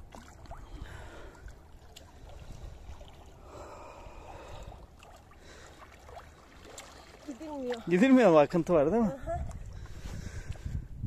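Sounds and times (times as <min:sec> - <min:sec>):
water sloshing and splashing: 0:00.0 - 0:10.7.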